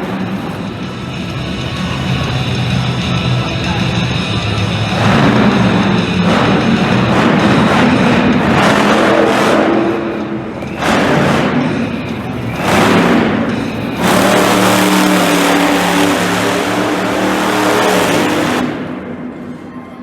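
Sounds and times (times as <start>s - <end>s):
monster truck engine revving: 0.0s - 19.7s.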